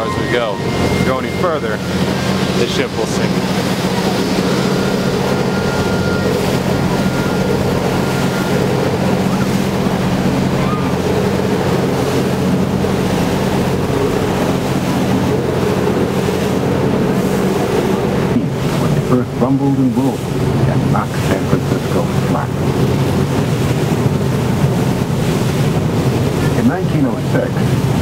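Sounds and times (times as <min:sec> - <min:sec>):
boat engine droning: 0:00.0 - 0:28.0
water rushing past hull: 0:00.0 - 0:28.0
wind buffeting microphone: 0:00.0 - 0:28.0.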